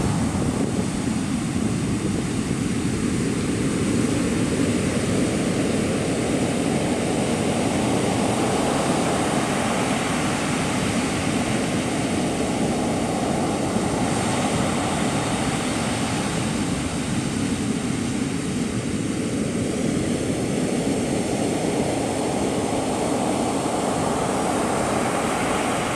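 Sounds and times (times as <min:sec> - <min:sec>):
sea surf breaking on shore: 0:00.0 - 0:25.9.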